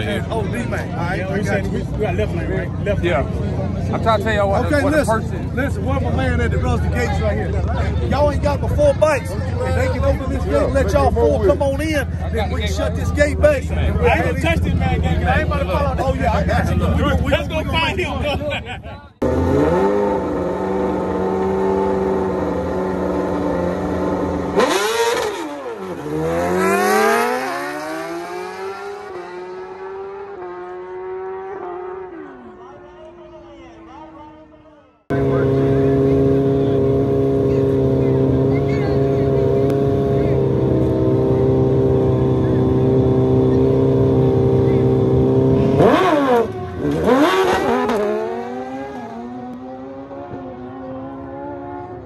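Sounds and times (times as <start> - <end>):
motorcycle engines revving hard: 0.0 - 32.4, 35.1 - 52.0.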